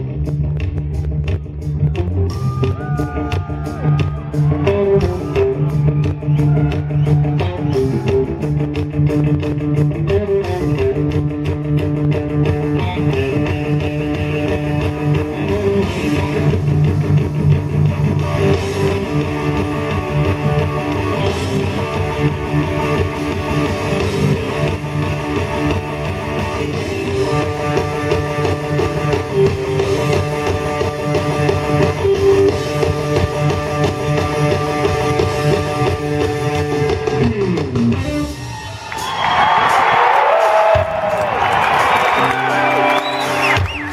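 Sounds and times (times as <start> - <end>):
electric guitars playing lead lines: 0.0 - 38.8, 39.5 - 43.9
bass and drums: 0.0 - 43.9.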